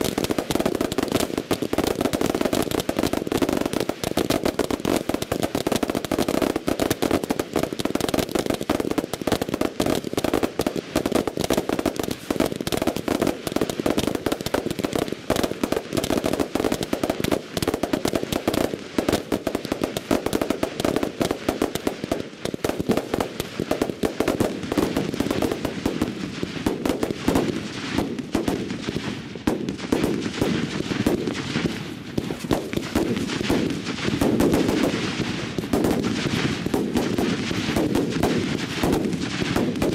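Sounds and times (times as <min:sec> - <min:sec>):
firecracker bangs rattling: 0:00.0 - 0:39.9.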